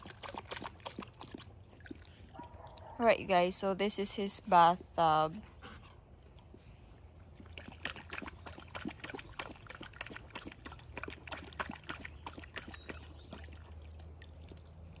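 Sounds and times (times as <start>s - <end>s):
puppy splashing water: 0.0s - 5.5s, 7.2s - 15.0s.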